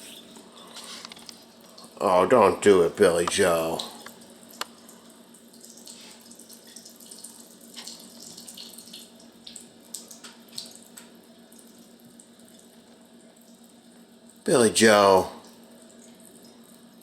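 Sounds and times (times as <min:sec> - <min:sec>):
water trickling: 0:00.0 - 0:17.0
light ticks and drips: 0:00.1 - 0:02.0, 0:02.6 - 0:14.5, 0:15.4 - 0:17.0.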